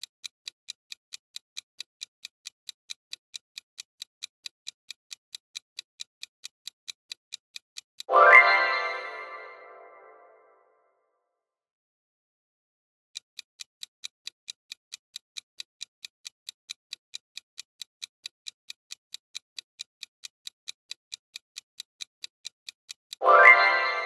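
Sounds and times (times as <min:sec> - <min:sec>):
clock-like ticking: 0:00.0 - 0:10.1, 0:13.1 - 0:24.0.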